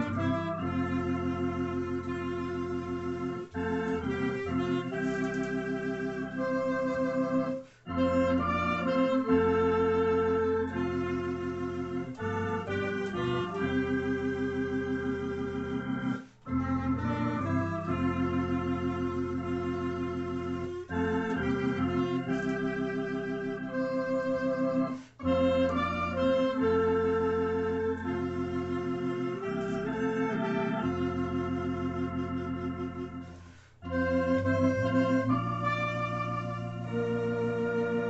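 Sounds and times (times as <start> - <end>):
clarinet: 0.0 - 38.0
electronic organ playing a hymn: 0.0 - 38.0.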